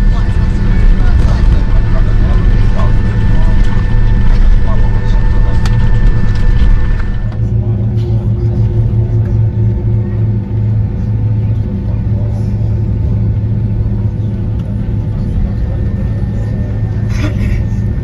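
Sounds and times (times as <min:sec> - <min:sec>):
jet engines humming: 0:00.0 - 0:18.0.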